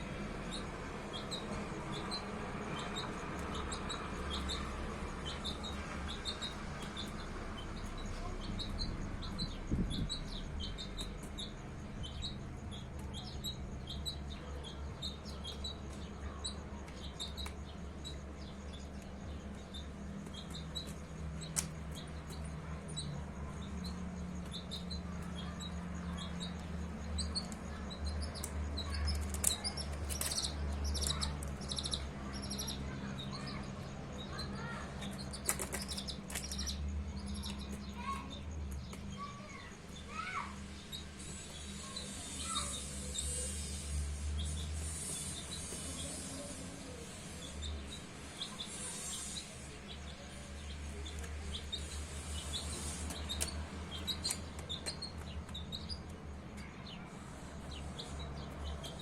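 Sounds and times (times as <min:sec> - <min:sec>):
baby chicks peeping: 0:00.0 - 0:59.0.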